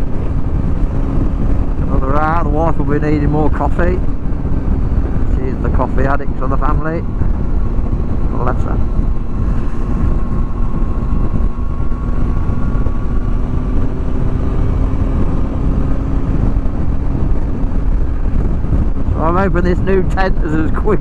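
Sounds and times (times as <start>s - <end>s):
motorcycle engine cruising: 0.0s - 21.0s
wind rush on microphone: 0.0s - 21.0s.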